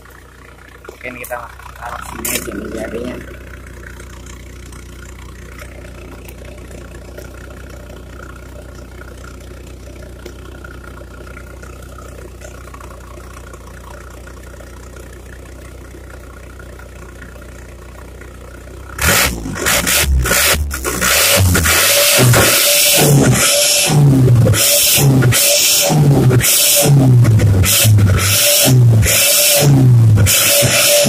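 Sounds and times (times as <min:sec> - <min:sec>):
engine idling deep exhaust: 0:00.0 - 0:31.0.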